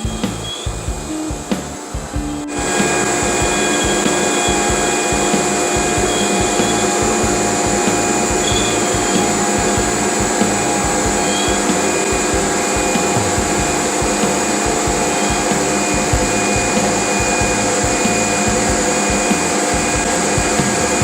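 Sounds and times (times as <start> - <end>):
cnc router carving wood: 2.4 - 21.0.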